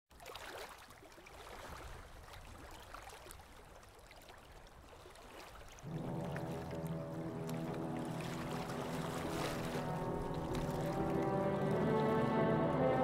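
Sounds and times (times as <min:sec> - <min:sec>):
small water splashes and drips: 0:00.1 - 0:12.6
soft water trickle: 0:00.1 - 0:13.0.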